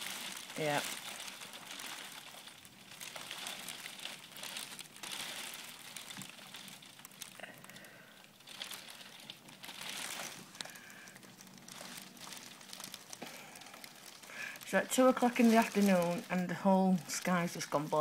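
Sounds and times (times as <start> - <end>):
heavy rain against a window: 0.0 - 18.0.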